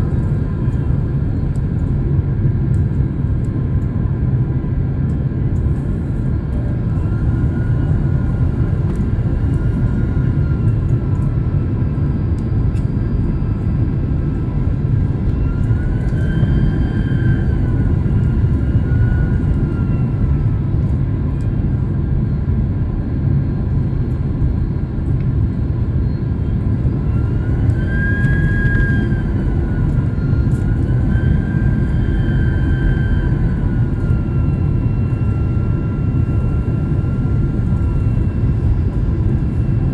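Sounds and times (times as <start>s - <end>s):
engine whine: 0.0s - 39.9s
jet engines and airflow rushing: 0.0s - 39.9s.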